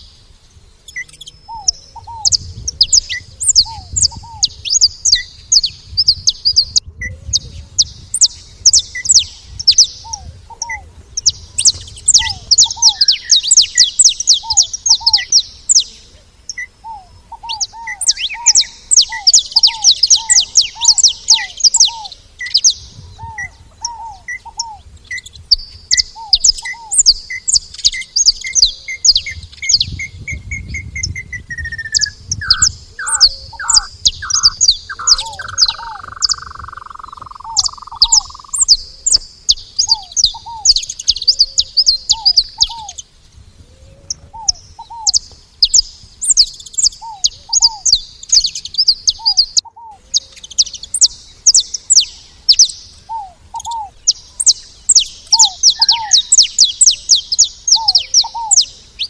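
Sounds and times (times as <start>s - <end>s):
series of short bird notes: 0.0s - 43.1s, 43.8s - 59.0s
finches chirping: 0.8s - 43.1s, 44.0s - 59.0s.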